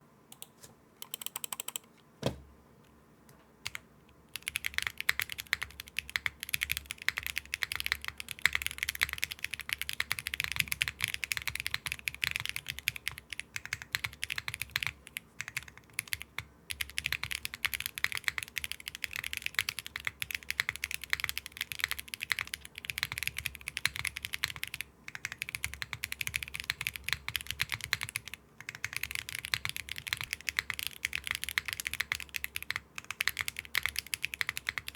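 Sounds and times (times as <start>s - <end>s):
mechanical keyboard typing: 0.3s - 1.9s, 3.6s - 34.9s.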